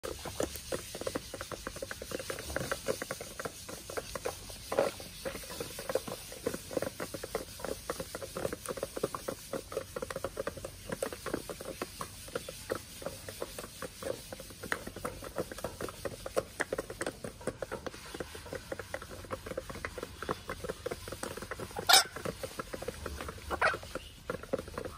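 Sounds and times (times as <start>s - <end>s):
chickens pecking feed: 0.0s - 24.9s.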